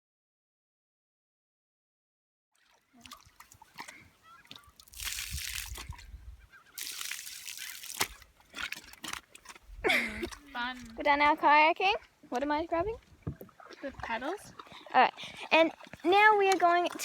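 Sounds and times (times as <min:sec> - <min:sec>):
water splashing around kayak: 0:02.6 - 0:17.0.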